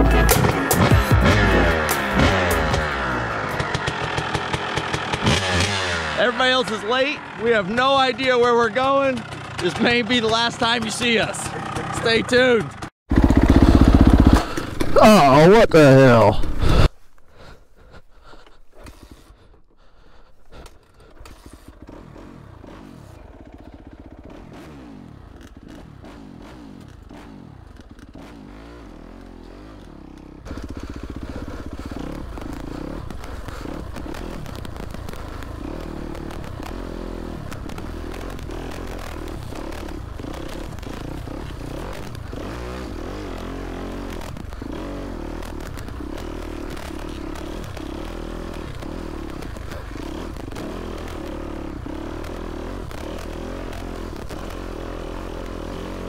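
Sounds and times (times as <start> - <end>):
dirt bike engine revving: 0.0 - 17.0, 18.2 - 56.0.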